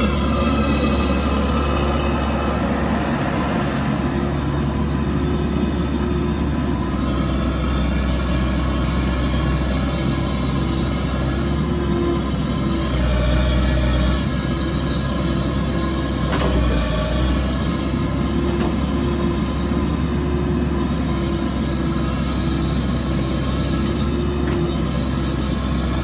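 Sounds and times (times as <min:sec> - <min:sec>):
mini excavator diesel engine running: 0:00.0 - 0:26.0.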